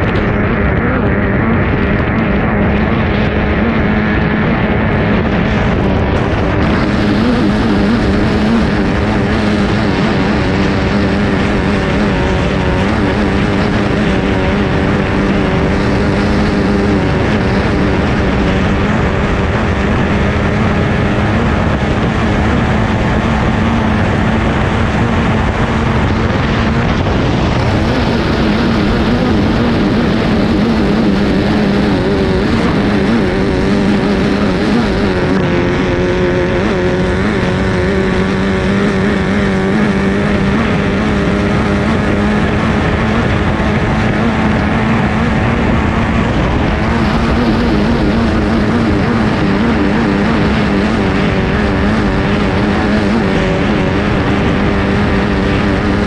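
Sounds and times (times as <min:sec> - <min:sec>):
boat engine drone: 0:00.0 - 0:56.0
water noise: 0:00.0 - 0:56.0
wind noise: 0:00.0 - 0:56.0.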